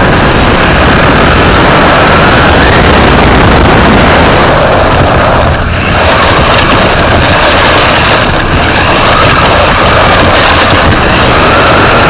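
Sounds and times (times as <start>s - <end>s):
rc car driving on pavement: 0.0s - 12.0s.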